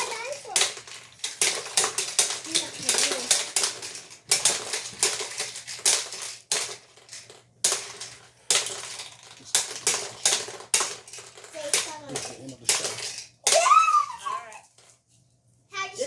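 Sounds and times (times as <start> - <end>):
plastic balls rattling: 0.0 - 15.2.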